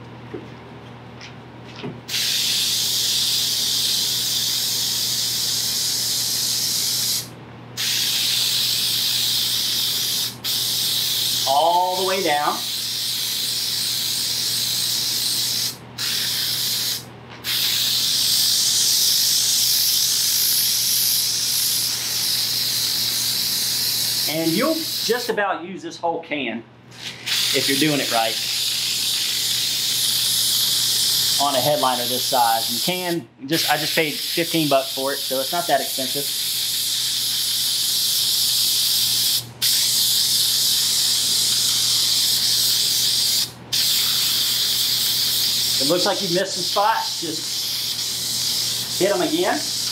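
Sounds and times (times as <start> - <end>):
aerosol can spraying: 2.1 - 25.3, 27.0 - 49.9.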